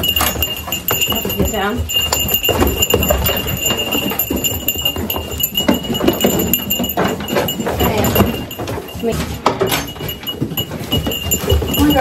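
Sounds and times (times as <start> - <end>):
goat hooves clattering on wood: 0.0 - 12.0.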